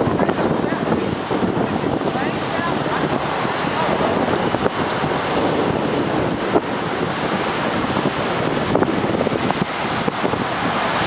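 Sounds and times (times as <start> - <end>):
strong wind blowing: 0.0 - 11.0.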